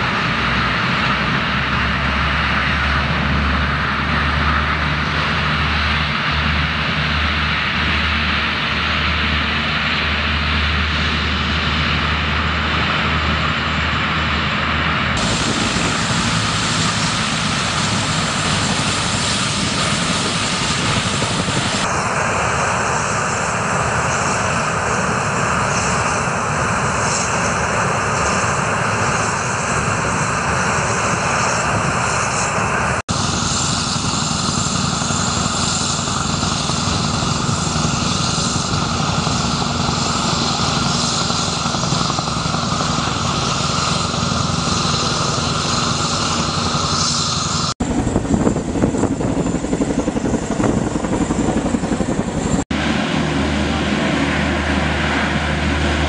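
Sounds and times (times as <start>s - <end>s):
helicopters flying past: 0.0s - 56.0s
hovercraft roaring: 0.0s - 56.0s.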